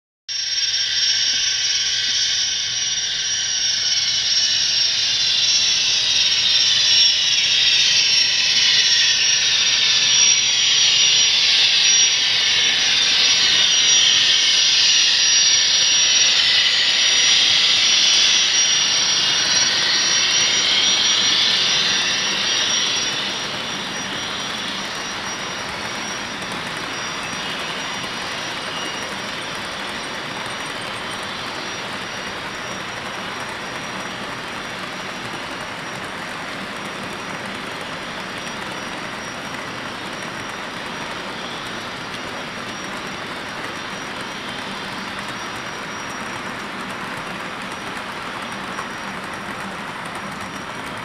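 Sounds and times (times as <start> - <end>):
jet-like turbine whine: 0.3 - 51.0.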